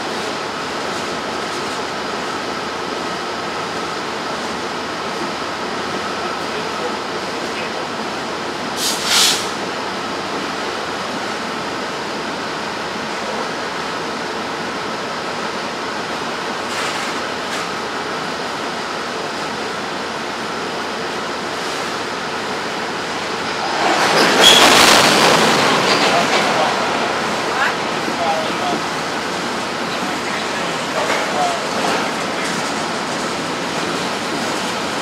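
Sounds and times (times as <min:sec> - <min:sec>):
freight train rumbling on rails: 0:00.0 - 0:35.0.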